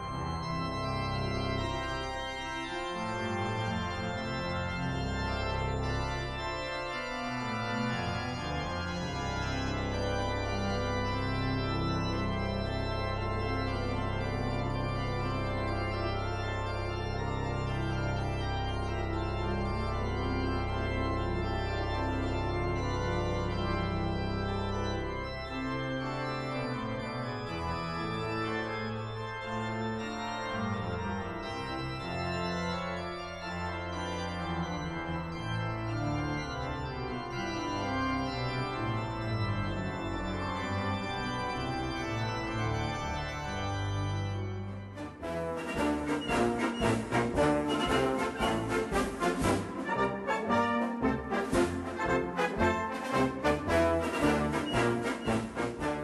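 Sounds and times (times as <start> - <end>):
organ chords: 0.0 - 56.0.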